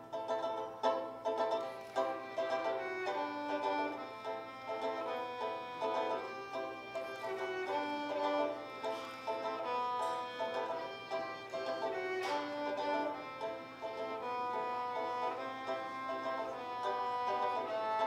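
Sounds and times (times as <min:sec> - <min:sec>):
banjo plucking: 0:00.0 - 0:18.0
fiddle melody: 0:00.0 - 0:18.0.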